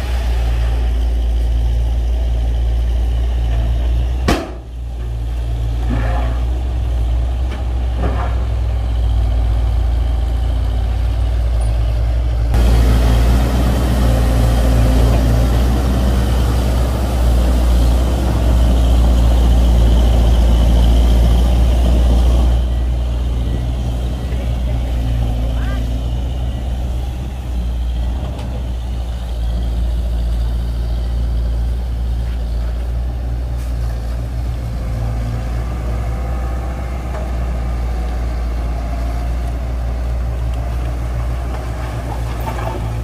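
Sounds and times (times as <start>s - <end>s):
heavy diesel machinery rumbling: 0.0s - 43.0s.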